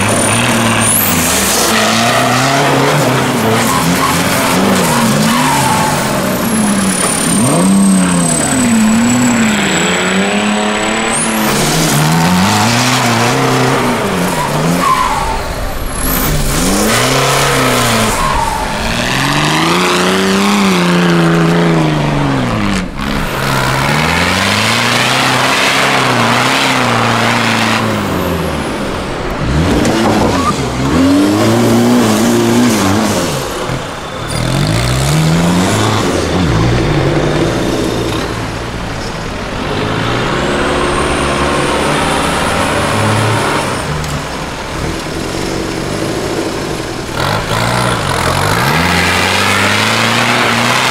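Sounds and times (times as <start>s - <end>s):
off-road engines revving hard: 0.0s - 50.9s.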